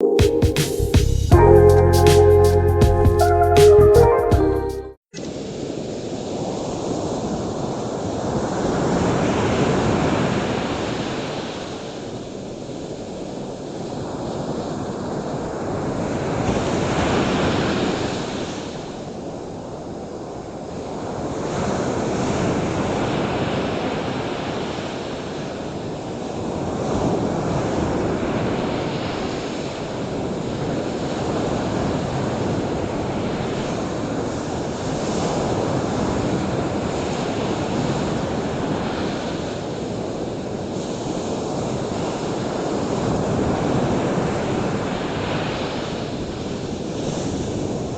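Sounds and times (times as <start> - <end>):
waves breaking on shore: 5.2 - 19.5, 20.7 - 47.9.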